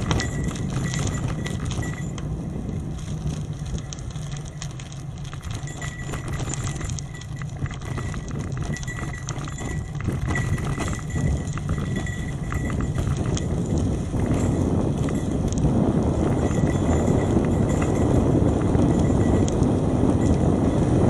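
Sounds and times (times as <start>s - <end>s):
bicycle rattling and clicking: 0.0s - 21.0s
tyre and wind rumble: 0.0s - 21.0s.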